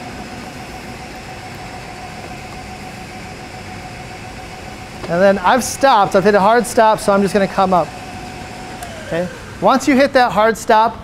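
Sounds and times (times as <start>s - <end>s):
drill press humming and whining: 0.0s - 11.0s.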